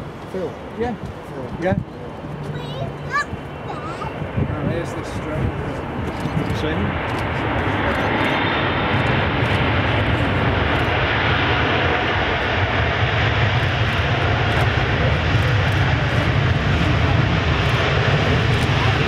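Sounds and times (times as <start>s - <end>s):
airliner jet engine noise: 0.0s - 19.0s.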